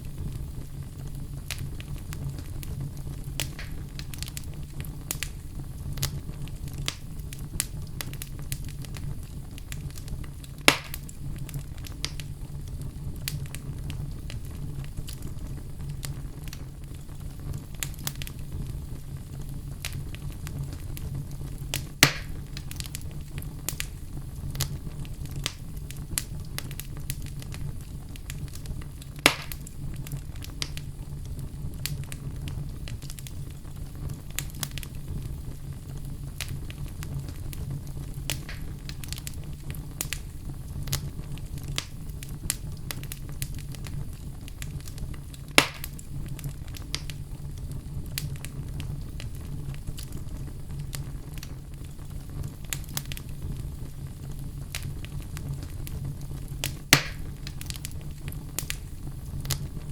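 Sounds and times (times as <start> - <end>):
sharp fire pops: 0.0 - 59.9
wood fire crackling: 0.0 - 59.9.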